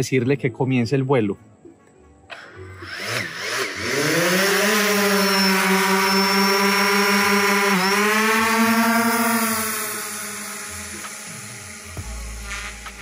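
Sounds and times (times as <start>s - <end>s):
drone propellers buzzing: 2.3s - 13.0s.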